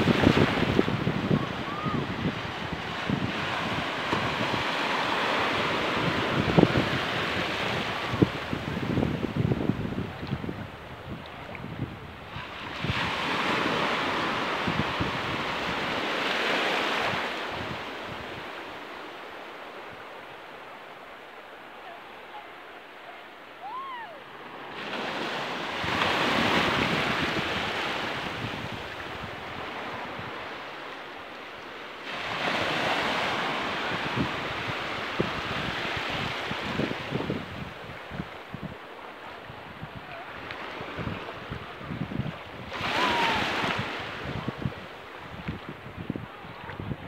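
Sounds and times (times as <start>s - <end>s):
wind buffeting microphone: 0.0s - 18.9s, 24.8s - 30.8s, 32.1s - 47.0s
waves breaking on a beach: 0.0s - 47.0s.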